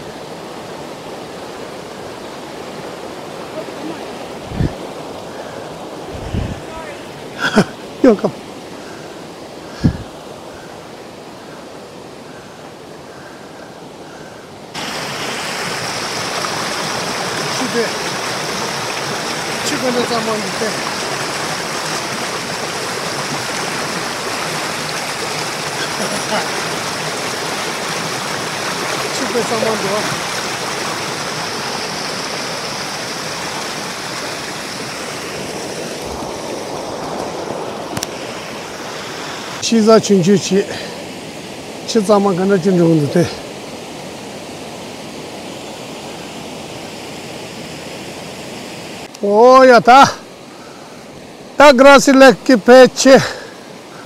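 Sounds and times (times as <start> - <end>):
rushing mountain creek: 0.0 - 54.0.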